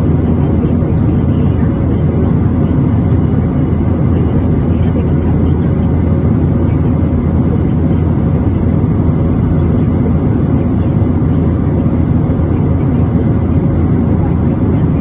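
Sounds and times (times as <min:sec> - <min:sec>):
airliner cabin engine hum: 0:00.0 - 0:15.0.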